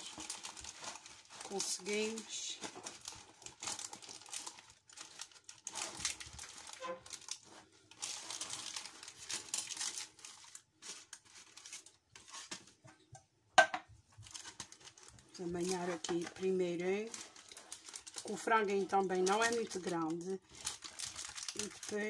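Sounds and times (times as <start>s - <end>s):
baking paper crinkling: 0.0s - 13.1s, 14.0s - 22.0s.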